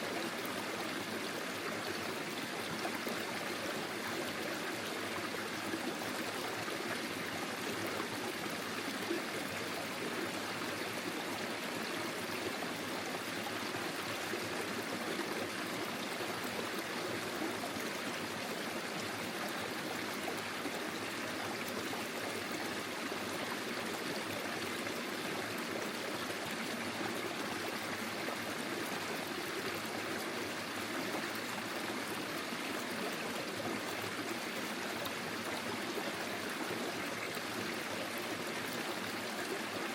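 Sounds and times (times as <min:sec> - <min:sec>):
forest stream trickling: 0:00.0 - 0:39.9.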